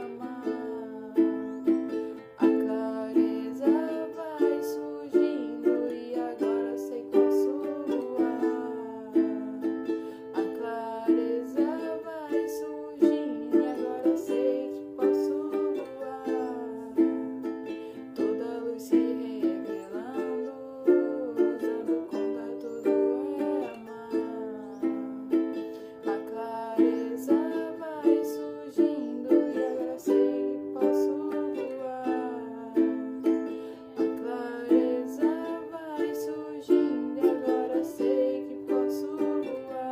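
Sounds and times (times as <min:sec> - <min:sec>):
plucked acoustic string instrument: 0:00.0 - 0:39.9.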